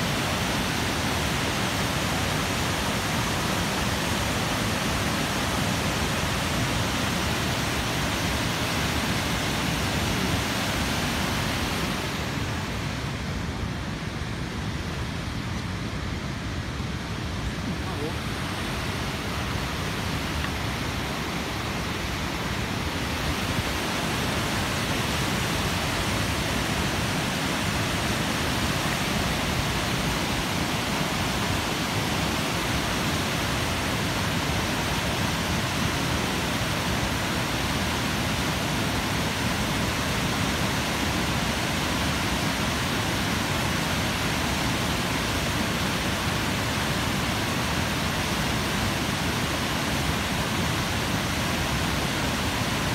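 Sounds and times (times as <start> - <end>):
water rushing over dam spillway: 0.0 - 52.9.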